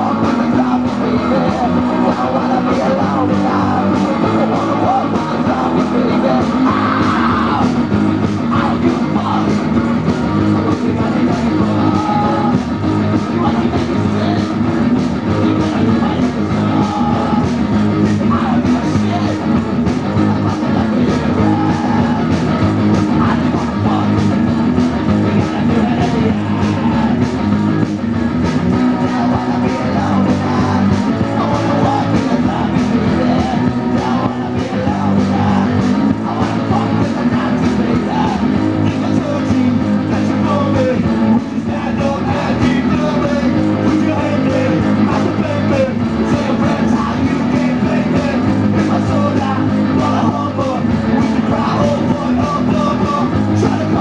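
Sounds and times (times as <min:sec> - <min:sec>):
electric guitars: 0:00.0 - 0:54.0
man singing: 0:00.0 - 0:54.0
steady drum beat: 0:00.0 - 0:54.0.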